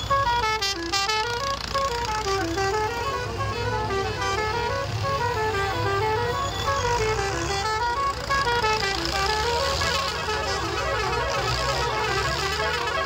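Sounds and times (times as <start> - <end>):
bright horn blast: 0.0 - 13.0
electronic musical horn tune: 0.0 - 13.0
tractor engines running low: 0.0 - 13.0.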